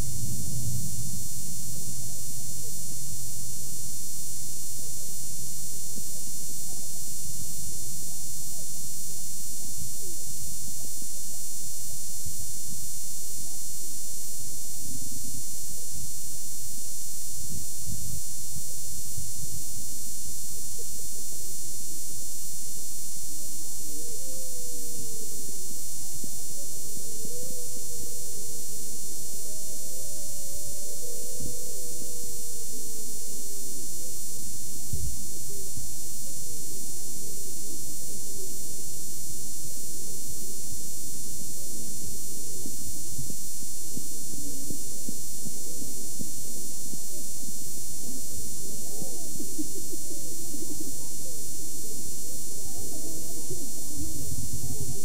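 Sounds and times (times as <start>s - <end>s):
camcorder hiss and whine: 0.0s - 55.0s.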